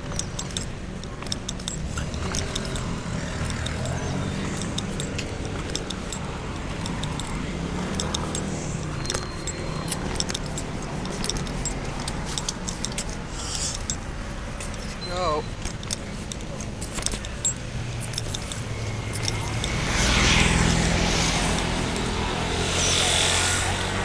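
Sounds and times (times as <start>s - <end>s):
small metal items jangling: 0.0s - 24.0s.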